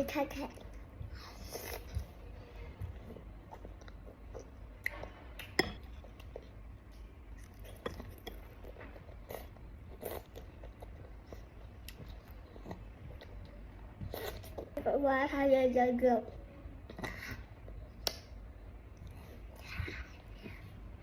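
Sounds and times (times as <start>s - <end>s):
soft chewing: 0.4s - 14.8s, 16.2s - 21.0s.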